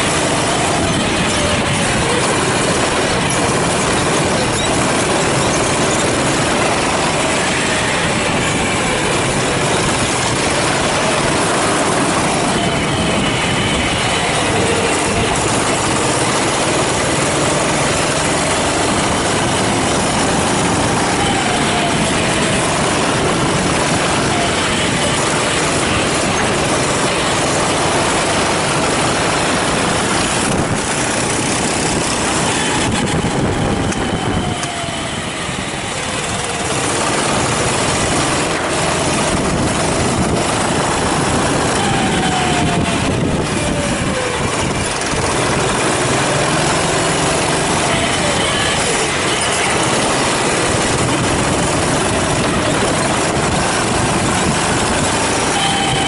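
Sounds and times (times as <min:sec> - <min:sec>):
constant rushing noise: 0:00.0 - 0:56.0
kart engine running hard: 0:00.0 - 0:56.0.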